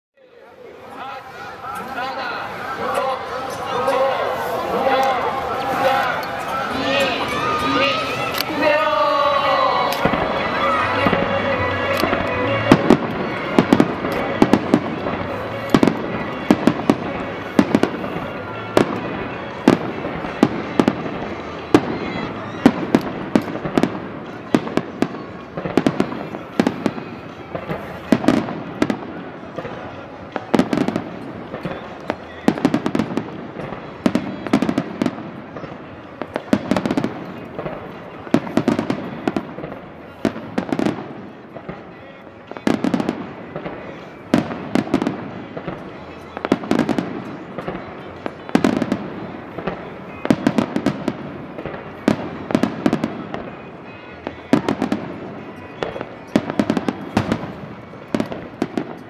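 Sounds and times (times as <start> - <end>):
firework cracks and pops: 9.5 - 59.0.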